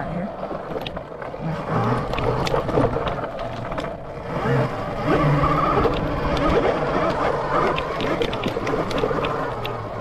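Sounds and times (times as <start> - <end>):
motorbike engine revving: 1.3 - 10.0.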